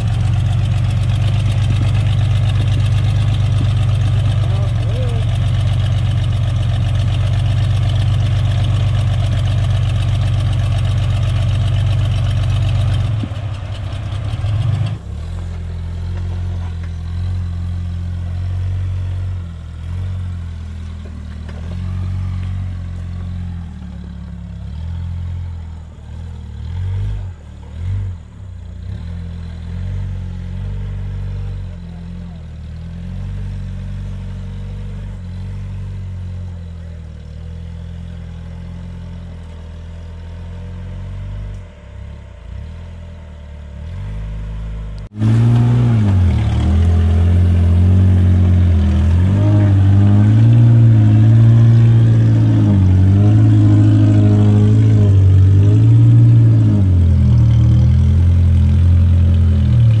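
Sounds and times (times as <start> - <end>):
off-road engine running and revving: 0.0 - 60.0.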